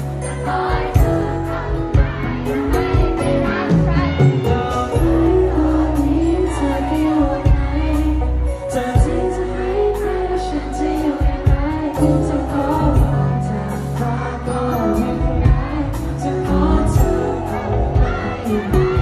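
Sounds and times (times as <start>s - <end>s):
bass line: 0.0s - 19.0s
drums: 0.0s - 19.0s
person singing: 0.0s - 19.0s.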